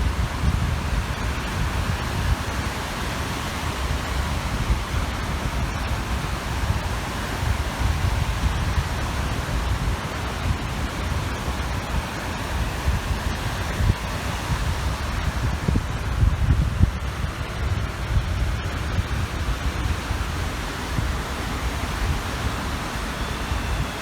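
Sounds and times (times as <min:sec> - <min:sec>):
waves breaking on shore: 0:00.0 - 0:24.0
wind blowing across microphone: 0:00.0 - 0:24.0.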